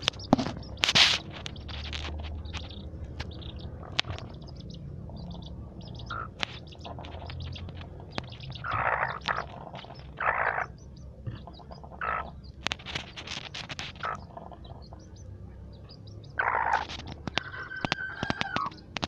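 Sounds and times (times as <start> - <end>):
chick peeping and chirping: 0.0 - 19.0.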